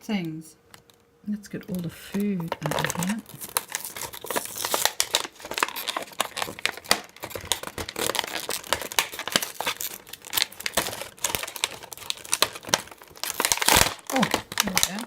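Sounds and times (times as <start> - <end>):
packaging crinkling: 1.7 - 15.0.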